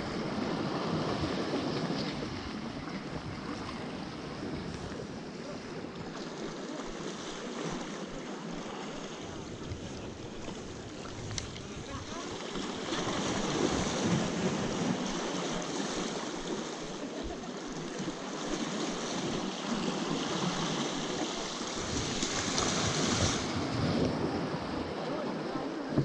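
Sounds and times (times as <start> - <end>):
sea surf washing against rocks: 0.0 - 26.0.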